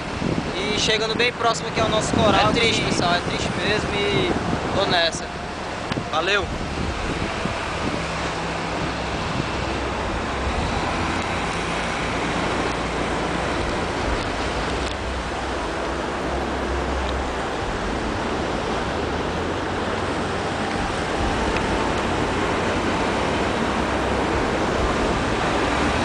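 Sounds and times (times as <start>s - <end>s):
truck engine rumble: 0.0s - 26.0s
wind rushing: 0.0s - 26.0s.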